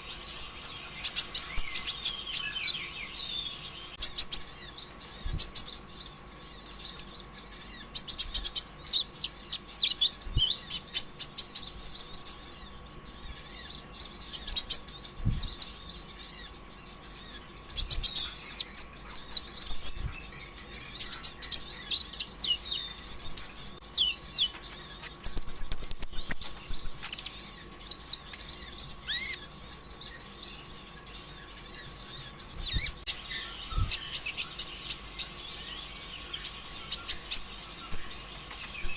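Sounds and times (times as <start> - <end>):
faint steady hum: 0.0 - 38.9
sunbird chattering song: 0.0 - 38.9.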